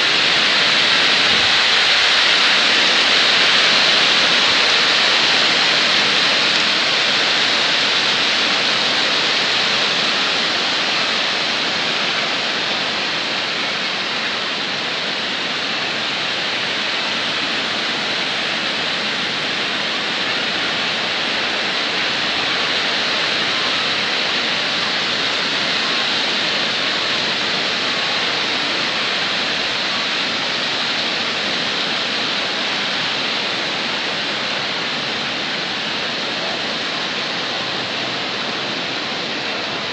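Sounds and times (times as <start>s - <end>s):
water rushing over dam: 0.0s - 39.9s.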